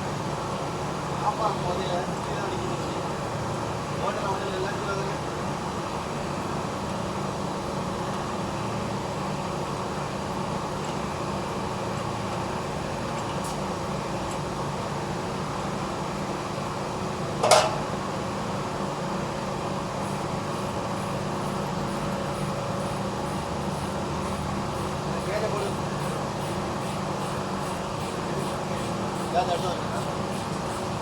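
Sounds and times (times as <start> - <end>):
refrigeration unit humming: 0.0 - 31.0.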